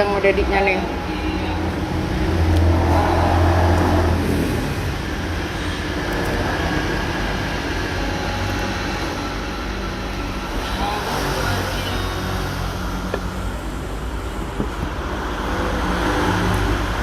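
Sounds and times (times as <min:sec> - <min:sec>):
road noise rushing: 0:00.0 - 0:17.0
vehicle engine hum: 0:00.0 - 0:17.0.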